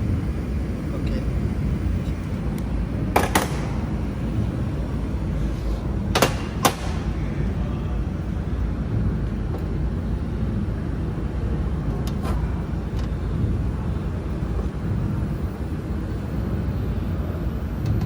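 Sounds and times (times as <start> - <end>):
low machine rumble: 0.0 - 18.0.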